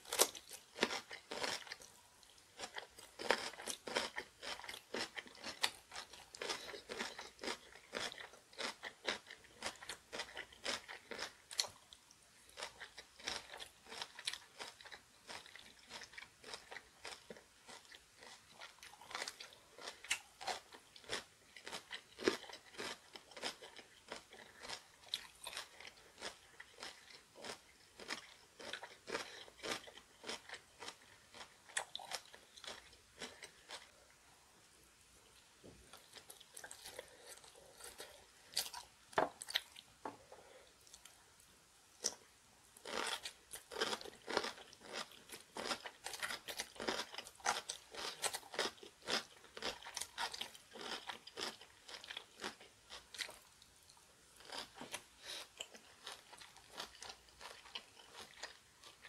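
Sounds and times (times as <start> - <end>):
crunching and chewing food: 0.0 - 34.4, 35.2 - 59.0.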